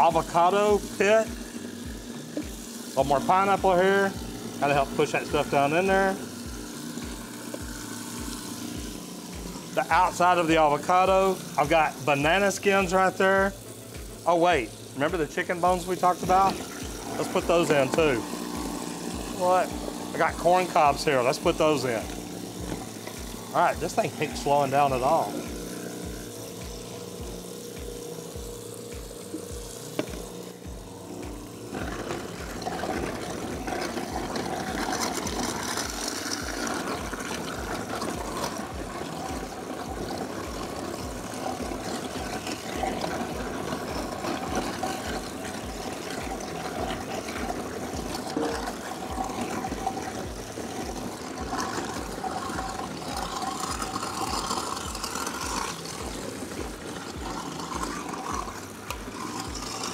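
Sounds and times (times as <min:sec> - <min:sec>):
faucet water running: 0:00.0 - 0:59.9
garbage disposal grinding: 0:00.0 - 0:59.9.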